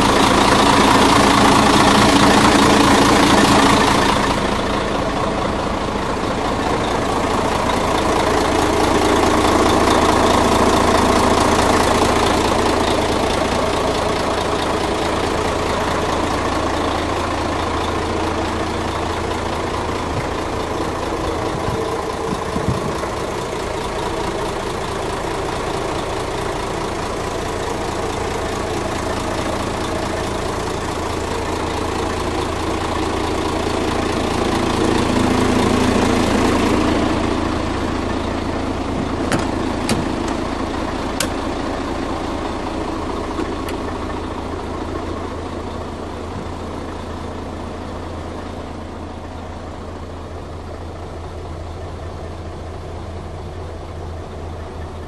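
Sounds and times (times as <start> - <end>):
truck diesel engine idling: 0.0 - 55.0.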